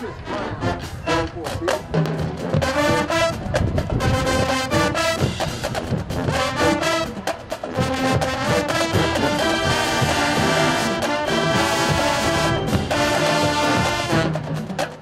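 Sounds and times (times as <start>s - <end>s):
brass section playing: 0.0s - 15.0s.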